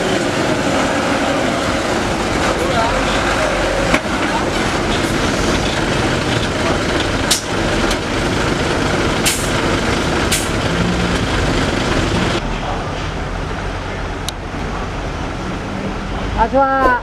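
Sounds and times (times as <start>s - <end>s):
diesel truck engine under load: 0.0s - 16.3s.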